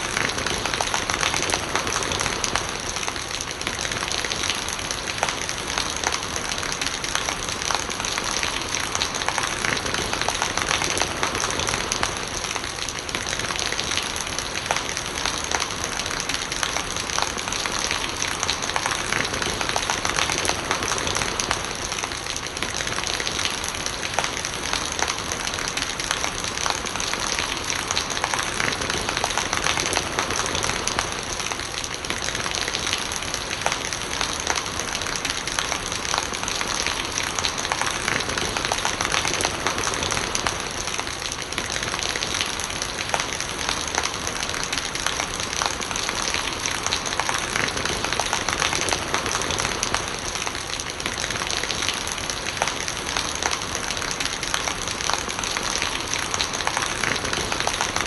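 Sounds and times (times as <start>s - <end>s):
rainwater gurgling: 0.0s - 58.0s
steady rain falling: 0.0s - 58.0s.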